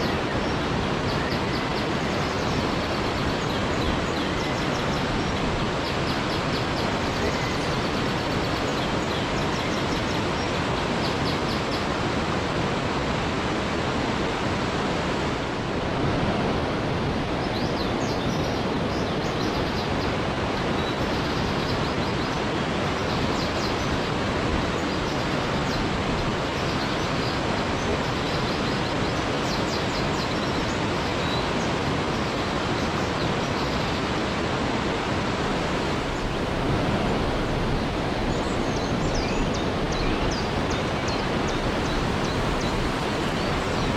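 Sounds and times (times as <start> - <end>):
waterfall rushing water: 0.0 - 43.9.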